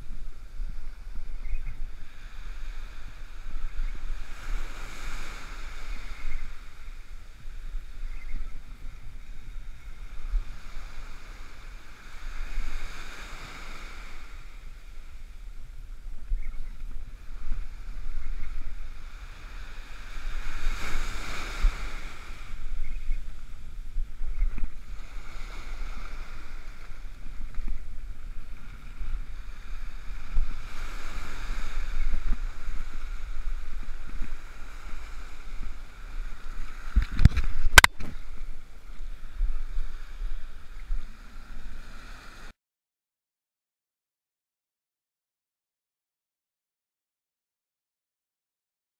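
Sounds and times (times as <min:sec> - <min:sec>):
wind rumble on microphone: 0:00.0 - 0:42.5
surf washing over sand: 0:00.0 - 0:42.6.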